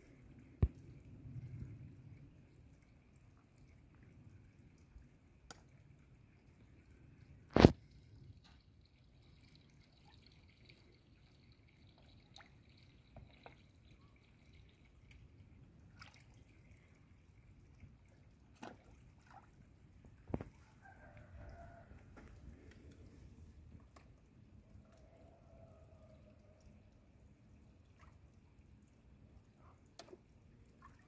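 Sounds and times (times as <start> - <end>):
small water splashes: 0.0 - 31.0.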